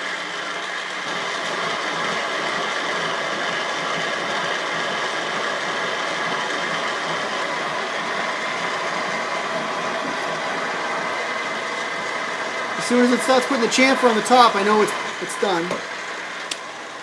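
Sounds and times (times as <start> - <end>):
cutter machining metal: 0.0 - 17.0
machine spindle running: 0.0 - 17.0.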